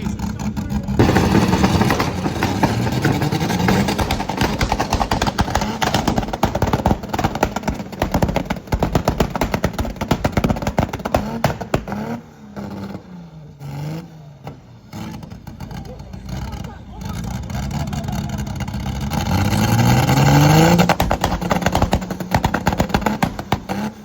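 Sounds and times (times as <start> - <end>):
car engine revving hard: 0.0 - 24.0.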